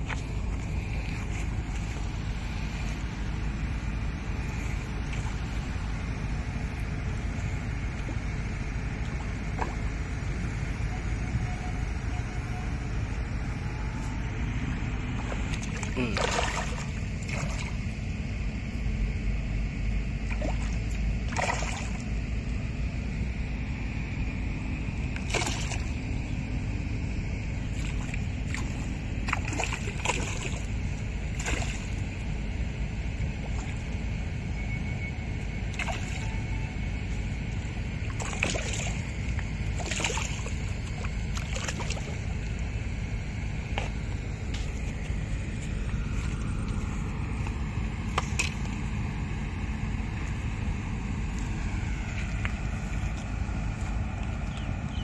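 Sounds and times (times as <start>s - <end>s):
water splashing and sloshing: 0.0s - 18.7s, 19.8s - 55.0s
low rumble: 0.0s - 55.0s.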